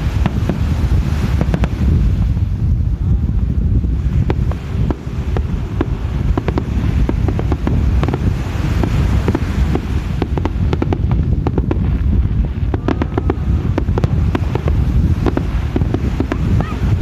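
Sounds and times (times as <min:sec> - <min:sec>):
fireworks bangs and crackles: 0:00.0 - 0:17.0
wind rumble on microphone: 0:00.0 - 0:17.0.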